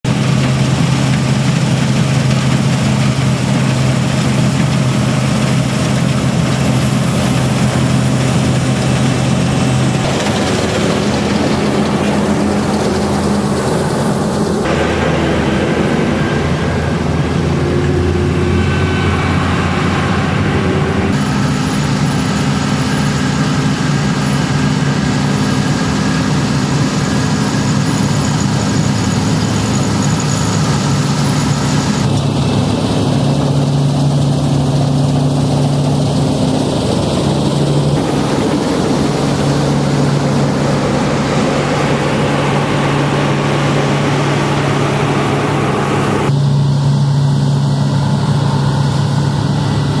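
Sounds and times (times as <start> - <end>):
diesel farm machinery running: 0.0 - 50.0.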